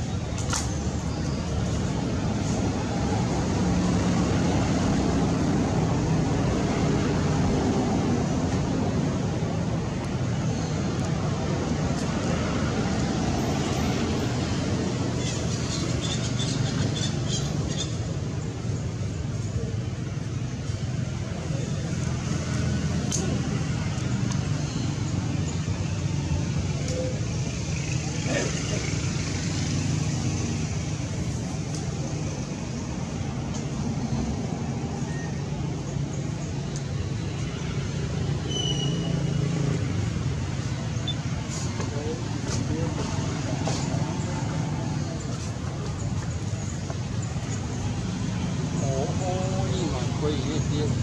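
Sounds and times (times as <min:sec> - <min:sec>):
distant road traffic rumble: 0:00.0 - 0:51.0
rushing background noise: 0:00.0 - 0:51.0.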